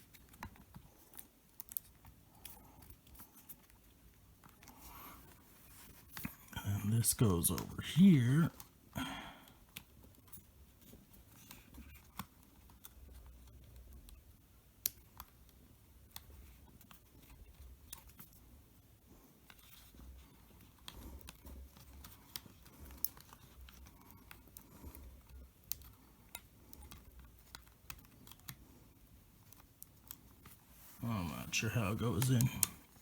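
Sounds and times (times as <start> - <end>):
small clicks and taps of handling: 0.0 - 6.4, 9.6 - 18.4, 19.2 - 30.8.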